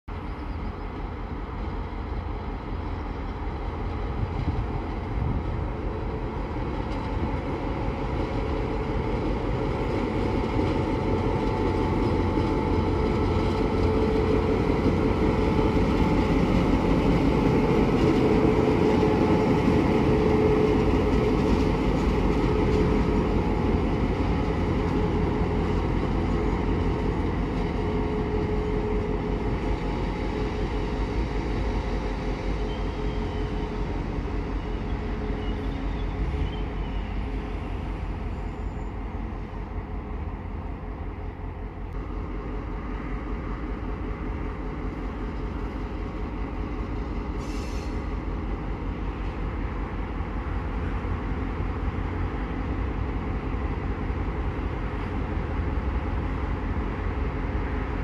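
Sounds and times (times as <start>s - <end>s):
diesel locomotive engine hum: 0.0s - 58.0s.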